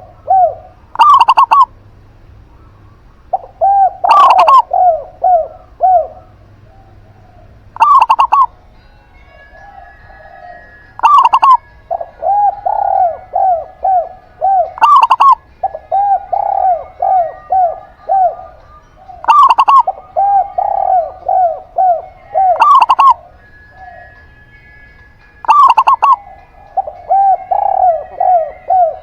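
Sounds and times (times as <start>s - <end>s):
sharp dove calls: 0.0s - 1.8s, 2.5s - 8.7s, 9.6s - 29.0s
doves cooing: 0.0s - 8.8s, 9.5s - 29.0s.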